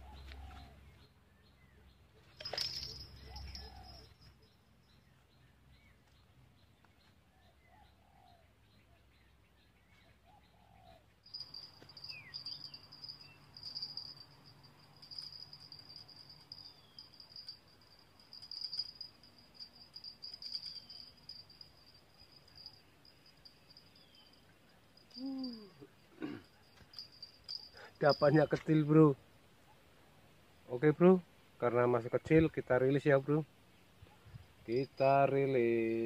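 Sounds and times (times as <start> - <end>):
soft low bird calls: 0.0 - 30.8.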